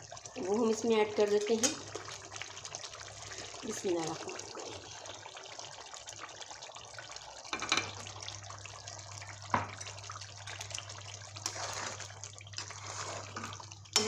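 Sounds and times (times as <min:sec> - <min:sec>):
pot bubbling and sizzling: 0:00.0 - 0:14.0.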